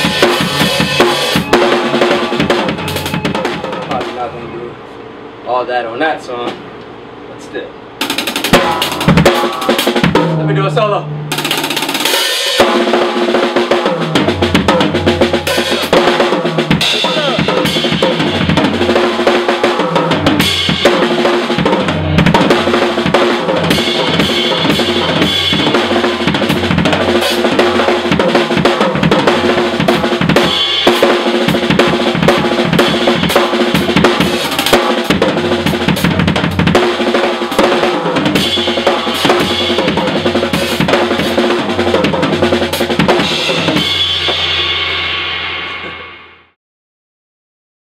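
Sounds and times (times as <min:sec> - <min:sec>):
live band playing: 0:00.0 - 0:04.5, 0:08.0 - 0:46.5
bass notes: 0:00.0 - 0:04.8, 0:08.6 - 0:11.9, 0:14.0 - 0:44.6
drum kit: 0:00.0 - 0:04.8, 0:06.0 - 0:06.8, 0:07.9 - 0:46.6.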